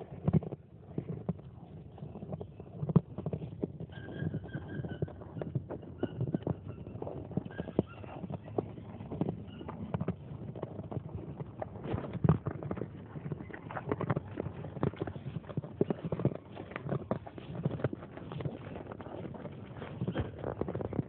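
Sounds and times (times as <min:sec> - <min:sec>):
cows crunching corn: 0:00.0 - 0:21.0.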